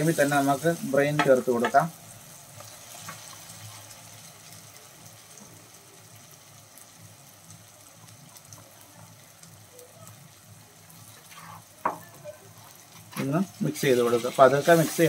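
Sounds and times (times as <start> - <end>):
masala sizzling in a frying pan: 0.0 - 15.0.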